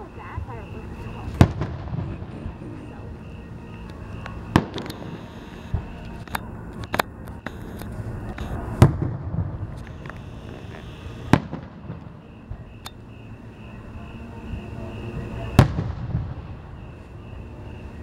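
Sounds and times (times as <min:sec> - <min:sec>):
firework shells booming: 0:00.0 - 0:06.2, 0:06.9 - 0:13.1, 0:14.5 - 0:16.9.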